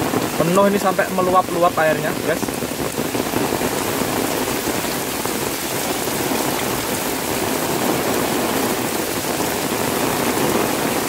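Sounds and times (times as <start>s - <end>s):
heavy rain falling: 0.0s - 11.0s
rain drumming on umbrella: 0.0s - 11.0s
rain splashing on wet ground: 0.0s - 11.0s.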